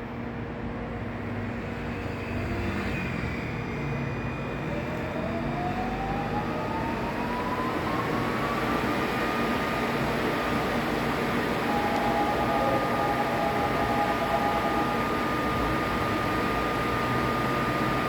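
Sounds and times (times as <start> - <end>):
train running noise: 0.0 - 18.0
electric train motor whine: 1.1 - 18.0.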